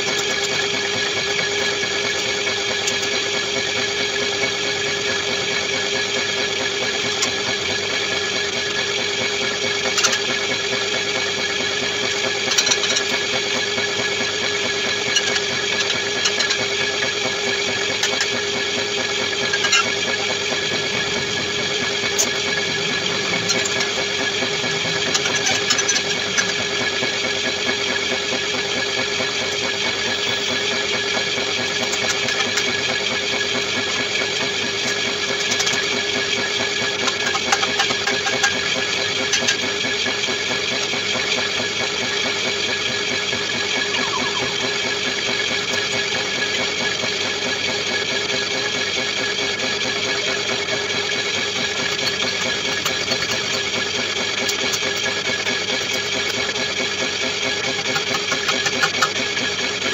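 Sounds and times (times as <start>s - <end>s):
metal lathe humming: 4.8s - 59.9s.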